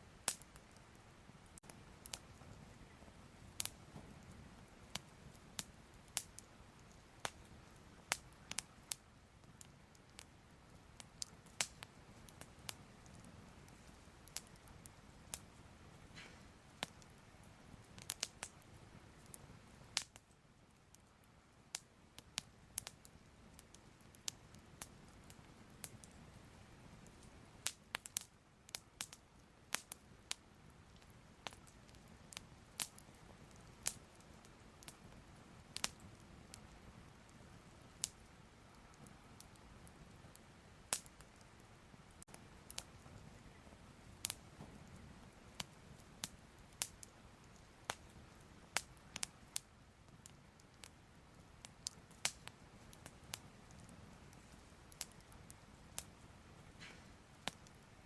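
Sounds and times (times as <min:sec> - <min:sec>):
soft fire crackling: 0:00.0 - 0:58.0.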